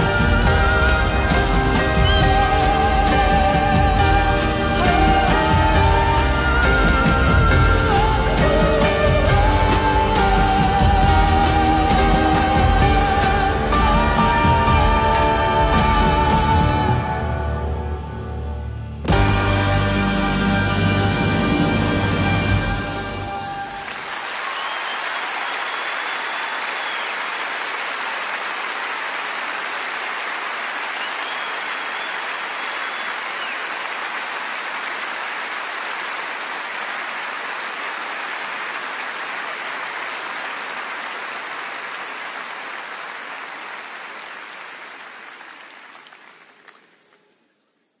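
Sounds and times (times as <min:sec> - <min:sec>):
audience applauding: 0:00.0 - 0:17.0, 0:21.2 - 0:47.8.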